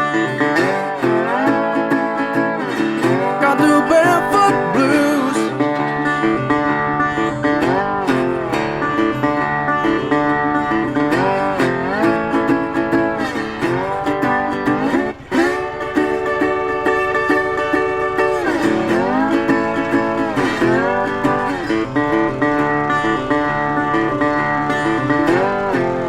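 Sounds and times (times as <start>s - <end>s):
country music with plucked guitar: 0.0s - 26.0s
sliding lead guitar line: 0.0s - 26.0s.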